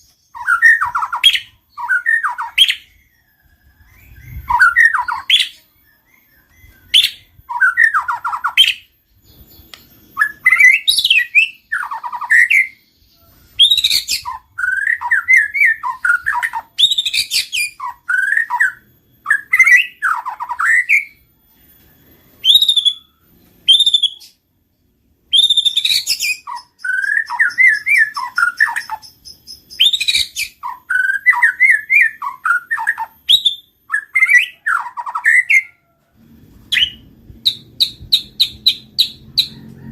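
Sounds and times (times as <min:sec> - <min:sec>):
songbird warbles and trills: 0:00.0 - 0:35.9, 0:36.6 - 0:39.9.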